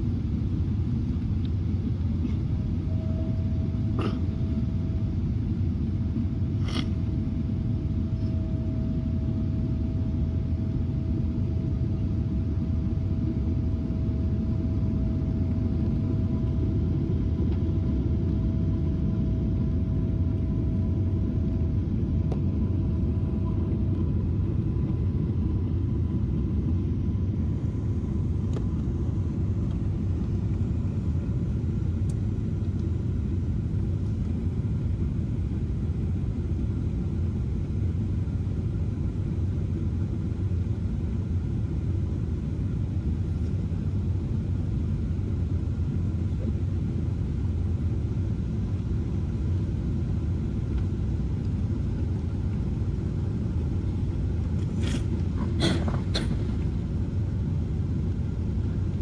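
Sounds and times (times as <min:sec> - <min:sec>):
aircraft cabin engine rumble: 0:00.0 - 0:59.0
faint steady whine: 0:00.0 - 0:59.0.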